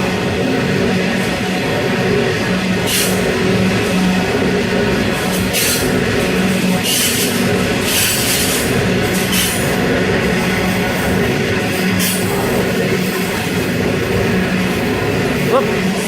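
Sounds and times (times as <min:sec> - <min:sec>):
hissing wheel noise: 0:00.0 - 0:16.0
train wheels rumbling on track: 0:00.0 - 0:16.0.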